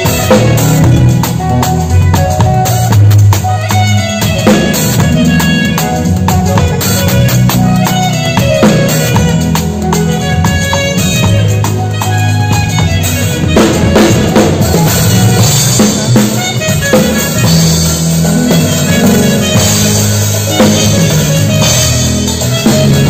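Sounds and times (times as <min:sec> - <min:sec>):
drum kit beat: 0:00.0 - 0:23.0
sustained bass notes: 0:00.0 - 0:23.0.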